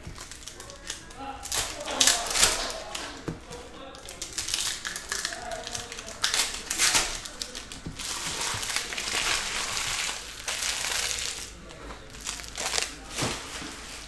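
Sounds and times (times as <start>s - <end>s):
card packaging crinkling: 0.0s - 14.0s.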